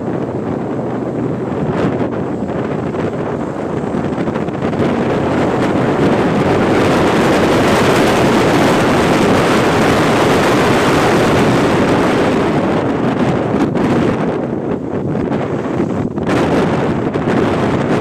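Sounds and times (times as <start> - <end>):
vehicle road and engine noise: 0.0 - 18.0
wind buffeting microphone: 0.0 - 18.0.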